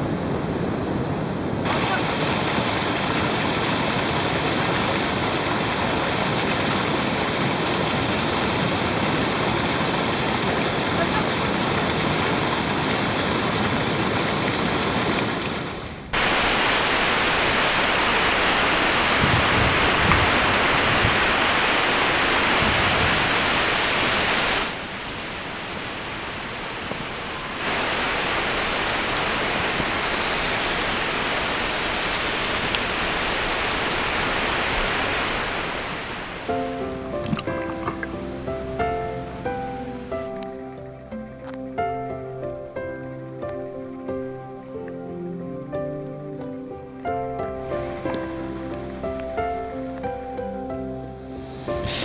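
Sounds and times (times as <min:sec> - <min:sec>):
underwater rush and bubbles: 0:01.6 - 0:41.6, 0:47.0 - 0:52.0
waterfall pouring into pool: 0:01.6 - 0:43.3, 0:46.4 - 0:52.0.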